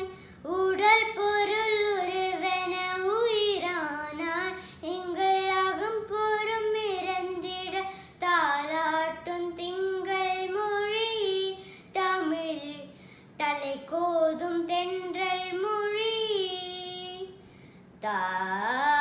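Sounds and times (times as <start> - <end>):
boy singing unaccompanied: 0.0 - 17.4.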